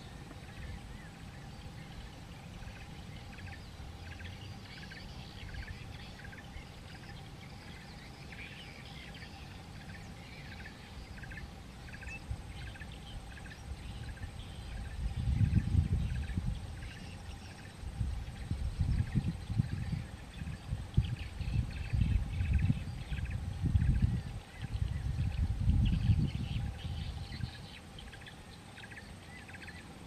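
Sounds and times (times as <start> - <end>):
birds chirping: 0.0 - 30.0
faint hum: 0.0 - 30.0.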